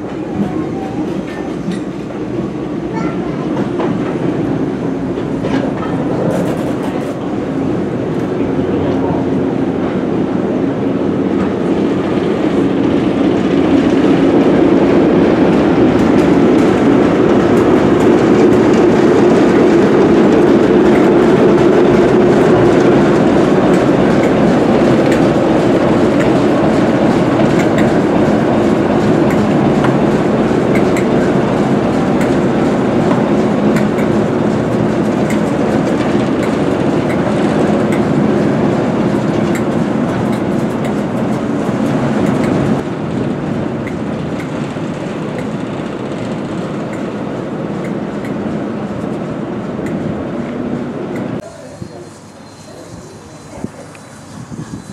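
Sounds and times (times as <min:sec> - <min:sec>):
train wheels clicking over rail joints: 0:03.5 - 0:07.3, 0:11.3 - 0:54.9.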